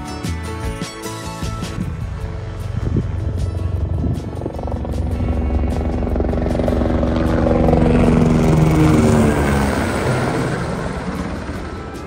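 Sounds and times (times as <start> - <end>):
helicopter passing overhead: 1.3 - 12.0.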